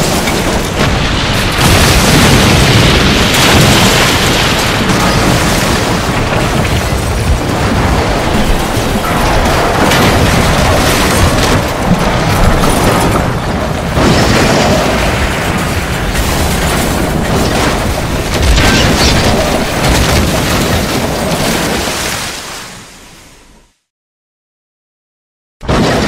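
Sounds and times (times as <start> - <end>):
train crash rumble: 0.0 - 21.9.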